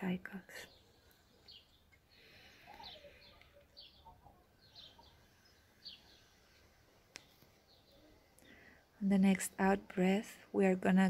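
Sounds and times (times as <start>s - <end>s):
small bird chirping: 0.4s - 9.6s.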